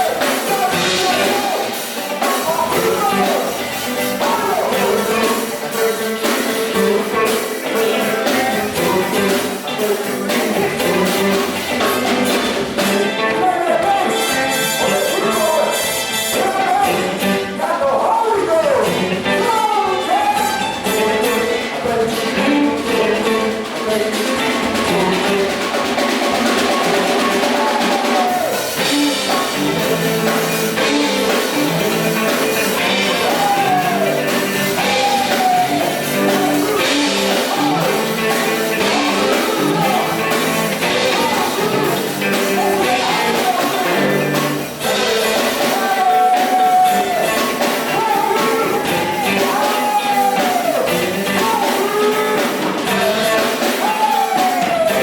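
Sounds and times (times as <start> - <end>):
band playing bass and drums: 0.0 - 55.0
person singing gospel: 0.0 - 55.0.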